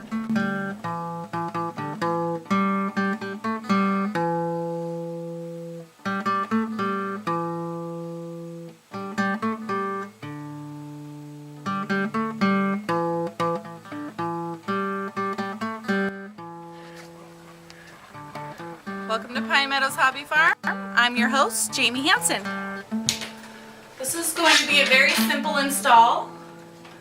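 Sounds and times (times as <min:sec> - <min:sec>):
acoustic guitar strummed and plucked: 0:00.0 - 0:27.0.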